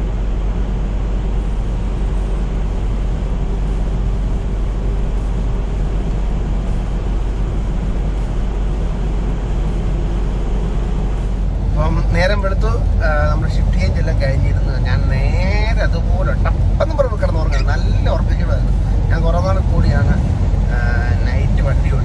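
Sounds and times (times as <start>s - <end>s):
truck engine and tyres droning: 0.0s - 22.0s.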